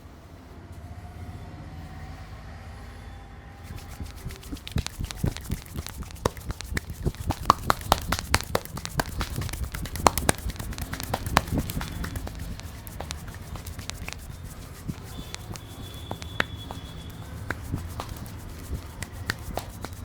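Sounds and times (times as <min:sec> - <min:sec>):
rapid sharp clicking: 0:03.7 - 0:20.0.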